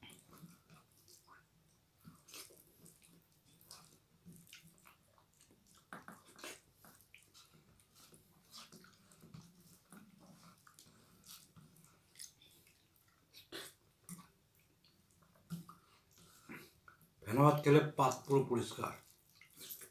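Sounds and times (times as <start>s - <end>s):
fingers mixing wet rice: 0.0s - 17.0s
chewing: 0.0s - 17.1s, 18.1s - 19.9s.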